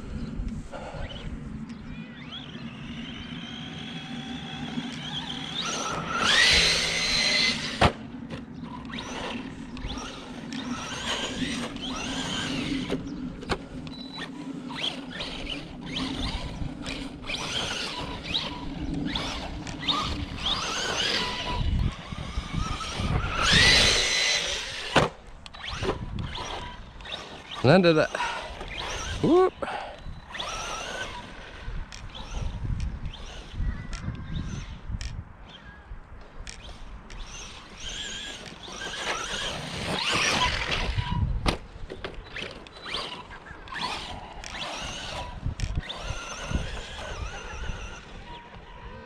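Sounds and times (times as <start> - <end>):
electric motor whining: 0.0 - 35.7, 36.5 - 49.0
steady low hum: 0.0 - 49.0.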